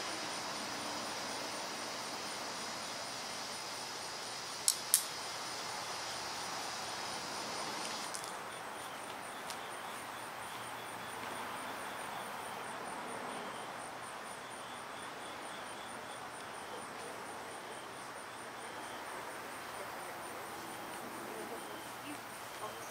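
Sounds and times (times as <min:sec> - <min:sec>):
lower insect chirping: 0:00.0 - 0:22.9
steady background hiss: 0:00.0 - 0:22.9.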